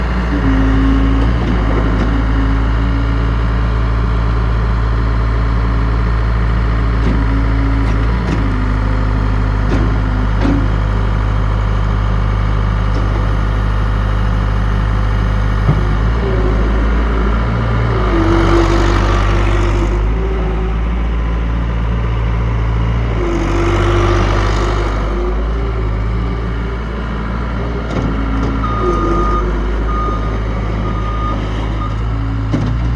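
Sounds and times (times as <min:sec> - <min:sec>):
loader engine running: 0:00.0 - 0:32.9.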